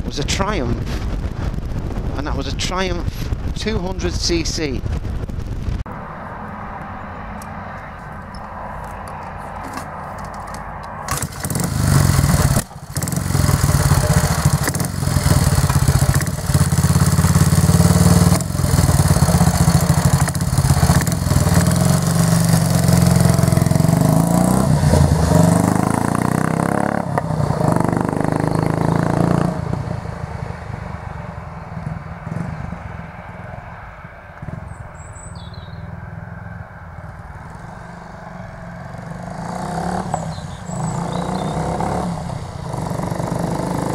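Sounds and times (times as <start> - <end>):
wind noise: 0.0 - 28.4, 29.0 - 43.3
motorcycle engine: 5.2 - 43.9.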